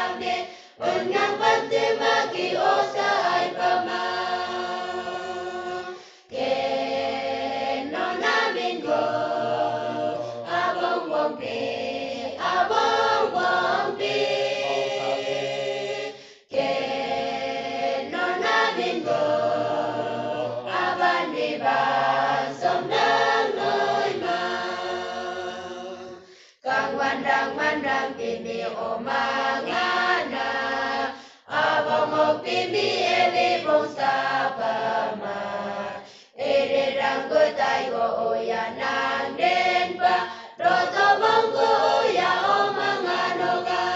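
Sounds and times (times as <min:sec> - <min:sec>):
choir singing a hymn: 0:00.0 - 0:43.9.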